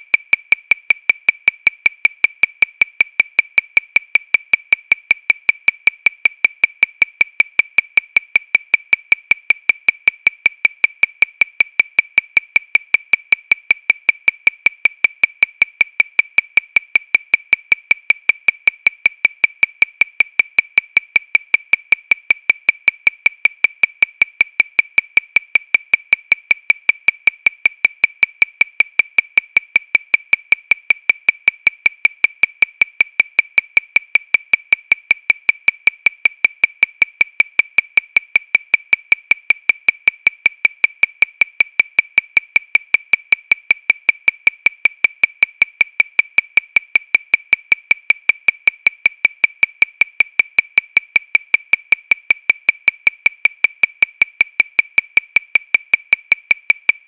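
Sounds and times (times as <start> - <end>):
electronic metronome clicking: 0.0 - 57.0.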